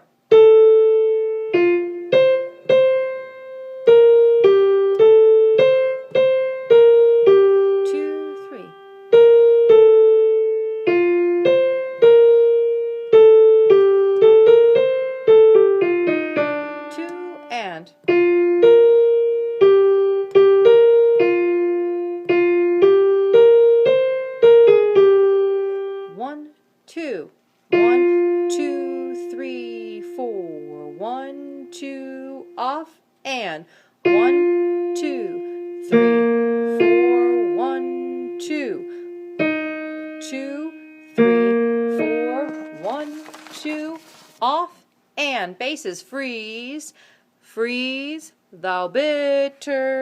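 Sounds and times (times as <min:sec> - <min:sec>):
piano single notes: 0:00.0 - 0:26.3, 0:27.7 - 0:33.4, 0:34.0 - 0:44.5.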